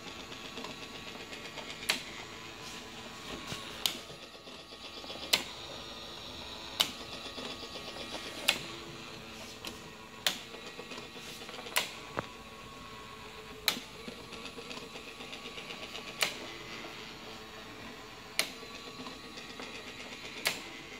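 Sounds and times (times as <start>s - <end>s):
motor mechanical whir: 0.0s - 20.9s.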